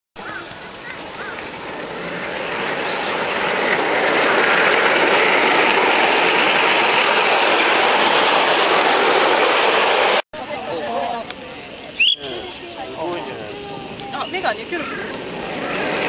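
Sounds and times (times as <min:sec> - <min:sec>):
model train wheels rumbling on rails: 0:00.2 - 0:16.0.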